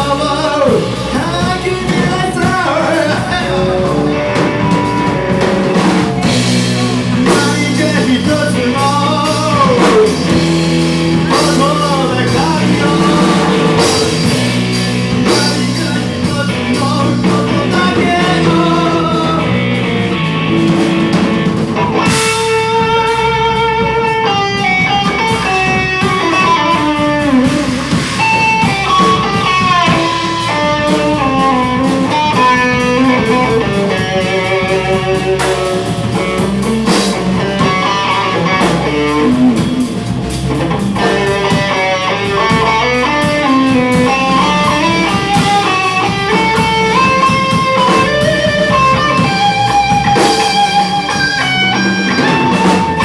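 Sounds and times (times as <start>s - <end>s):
bass guitar: 0.0s - 53.0s
drums: 0.0s - 53.0s
electric guitar lead melody: 0.0s - 53.0s.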